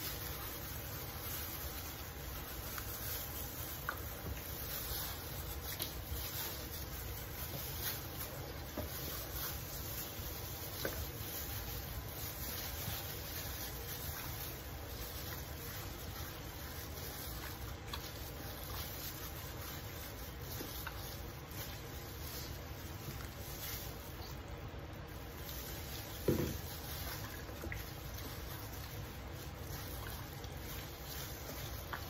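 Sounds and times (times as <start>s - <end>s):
plastic gloves crinkling: 0.0s - 32.0s
steady background hiss: 0.0s - 32.0s.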